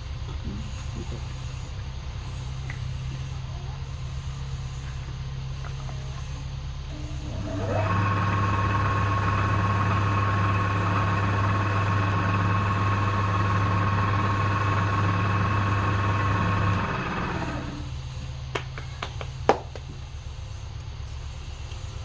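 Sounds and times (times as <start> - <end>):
electric motor humming and whining: 0.0 - 22.0
low background hum: 0.0 - 22.0.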